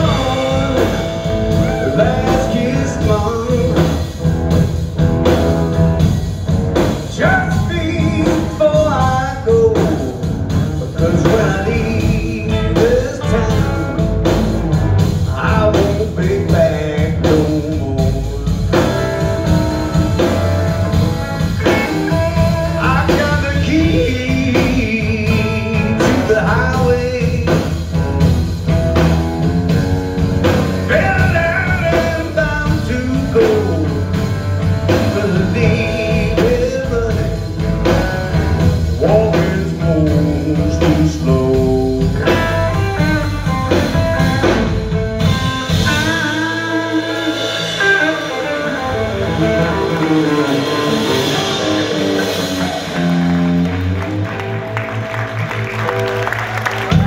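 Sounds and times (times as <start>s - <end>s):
drums: 0.0s - 57.0s
electric bass: 0.0s - 57.0s
electric guitar lead lines: 0.0s - 57.0s.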